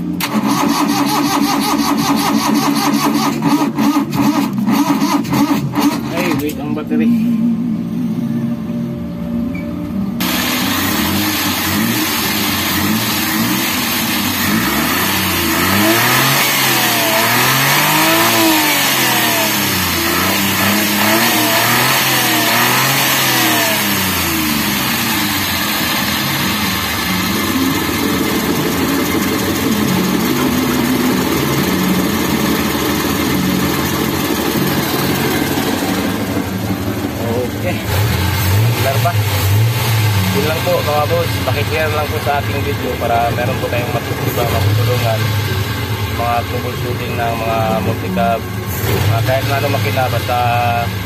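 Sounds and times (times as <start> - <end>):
car engine starting and revving: 0.0 - 8.6, 10.2 - 51.0.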